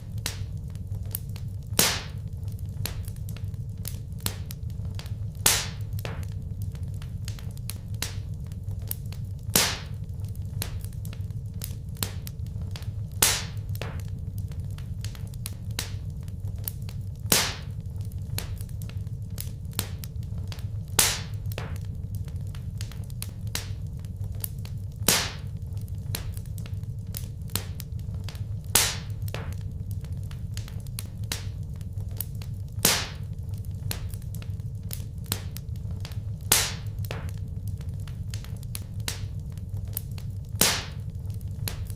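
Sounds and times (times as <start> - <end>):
wood fire crackling: 0.0 - 41.9
fire popping sharply: 0.2 - 7.5, 8.9 - 14.2, 16.6 - 23.0, 23.6 - 41.9.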